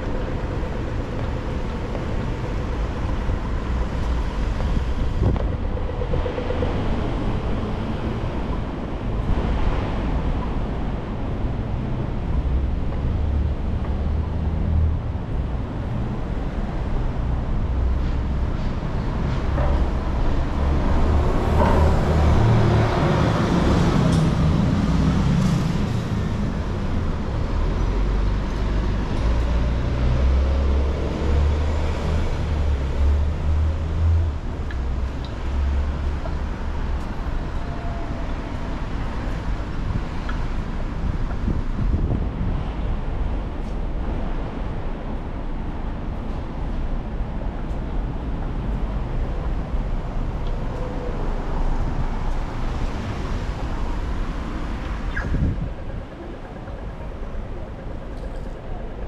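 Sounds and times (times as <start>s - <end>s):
street traffic: 0.0s - 59.0s
wind rumble on microphone: 0.0s - 59.0s.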